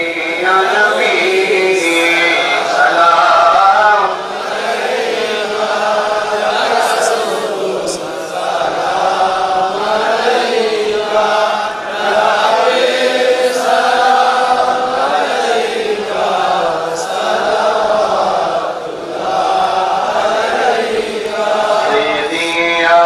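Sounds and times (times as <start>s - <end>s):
person chanting over loudspeakers: 0.0s - 23.0s.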